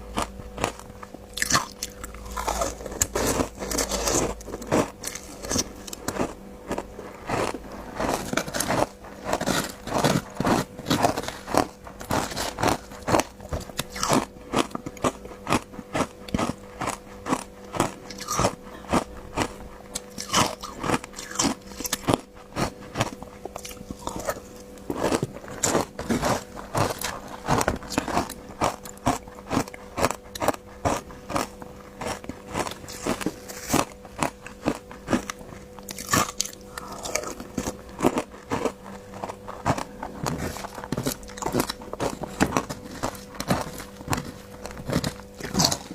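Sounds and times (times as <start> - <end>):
faint steady hum: 0.0 - 45.9
ice being chewed: 0.0 - 45.9.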